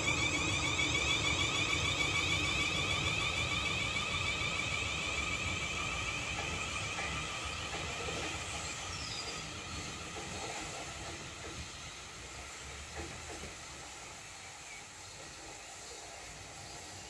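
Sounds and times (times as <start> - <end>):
electric train traction whine: 0.0 - 17.0
wheels rumbling on rails: 0.0 - 17.0.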